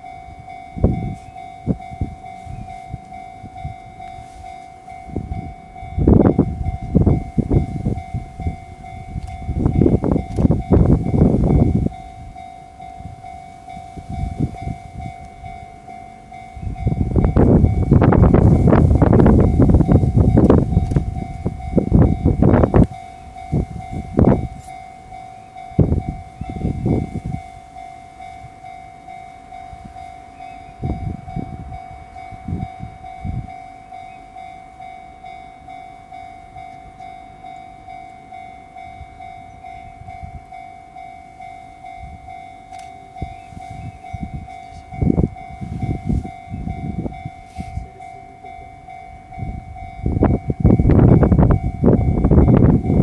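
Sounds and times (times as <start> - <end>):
level crossing alarm ringing: 0.0 - 53.0.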